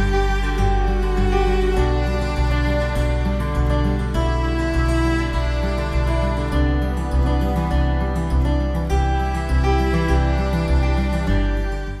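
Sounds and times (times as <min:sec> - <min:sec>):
gentle music with bass line: 0:00.0 - 0:12.0.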